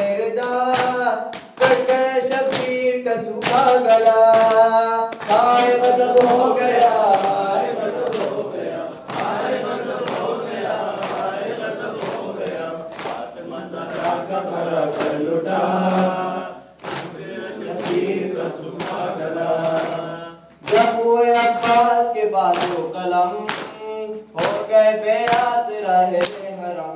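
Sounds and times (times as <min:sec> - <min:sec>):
men chanting in unison: 0:00.0 - 0:26.9.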